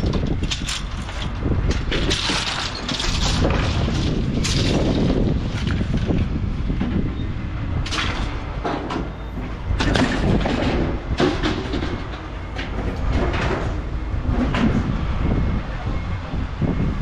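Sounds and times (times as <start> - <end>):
metallic clanks and rattles: 0.0 - 7.2, 7.8 - 14.9
steady low rumble: 0.0 - 17.0.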